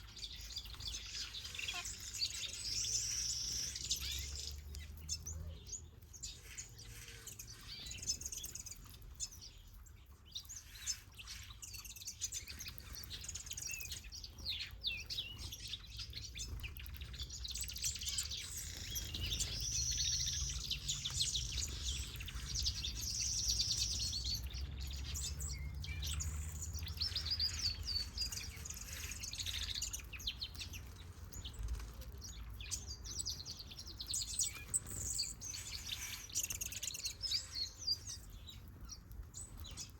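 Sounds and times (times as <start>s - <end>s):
finches chirping and calling: 0.0s - 39.9s.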